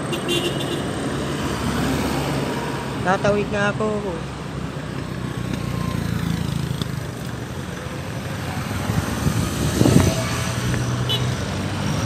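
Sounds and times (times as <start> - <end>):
vehicle engines passing by: 0.0 - 12.0.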